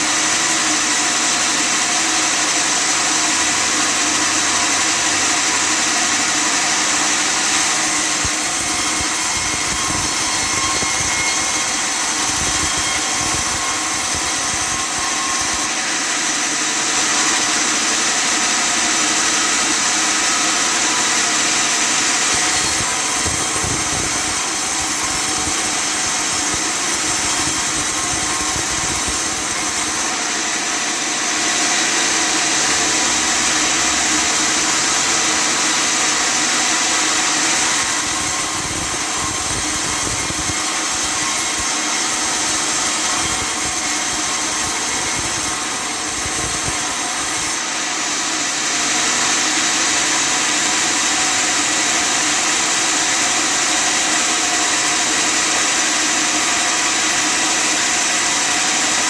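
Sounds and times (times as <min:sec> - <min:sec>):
sawmill cutting wood: 0:00.0 - 0:59.0.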